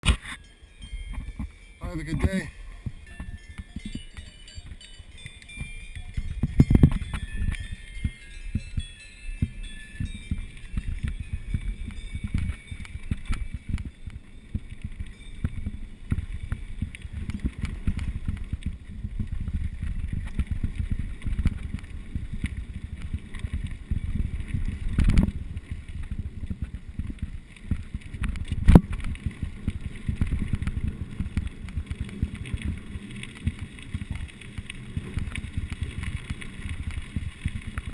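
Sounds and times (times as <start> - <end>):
bike tyres rumbling and parts rattling: 0.0 - 37.9
wind on microphone: 0.0 - 37.9.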